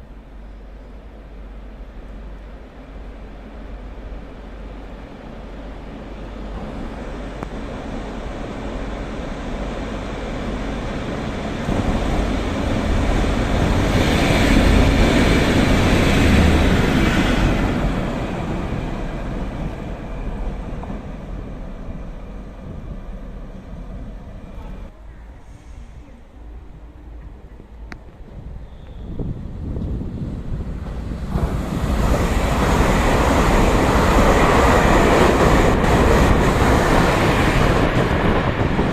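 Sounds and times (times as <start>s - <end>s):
train passing by rumbling: 0.0s - 38.9s.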